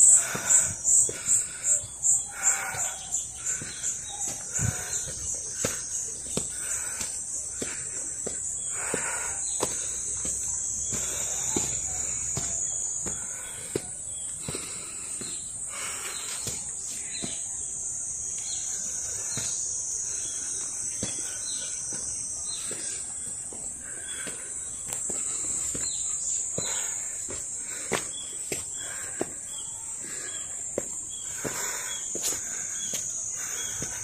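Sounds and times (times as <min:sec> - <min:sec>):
footsteps on stone path: 0:00.0 - 0:34.0
insects chirring: 0:00.0 - 0:34.0.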